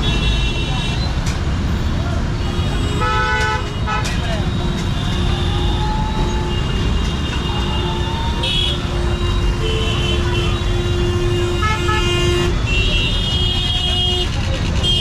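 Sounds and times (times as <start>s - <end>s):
traffic rumble: 0.0s - 15.0s
car horn toots: 2.8s - 15.0s.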